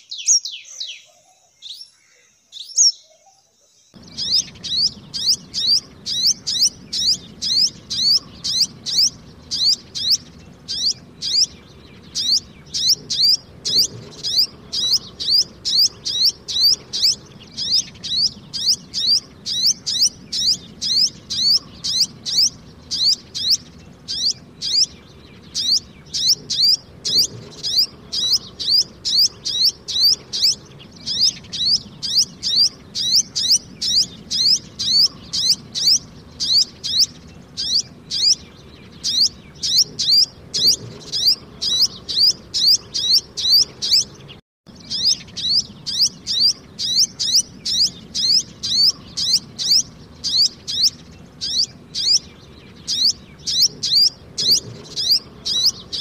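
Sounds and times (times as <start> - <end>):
bird chip notes: 4.0 - 56.0.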